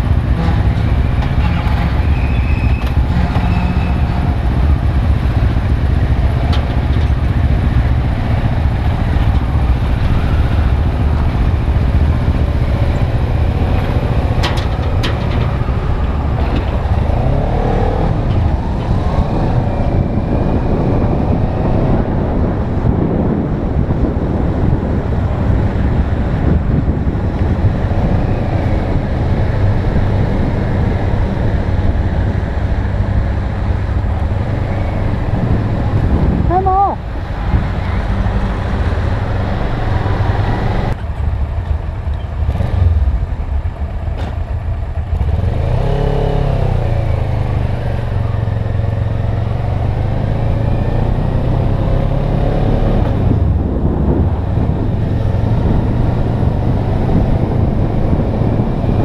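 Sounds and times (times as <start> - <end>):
motorcycle engine running: 0.0 - 50.4
wind noise on microphone: 0.0 - 59.0.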